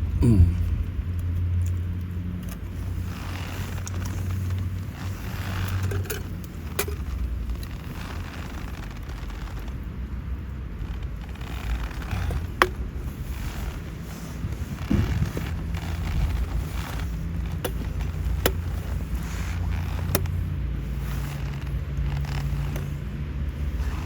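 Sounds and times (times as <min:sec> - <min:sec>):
rain on a tarp: 0:02.2 - 0:24.0.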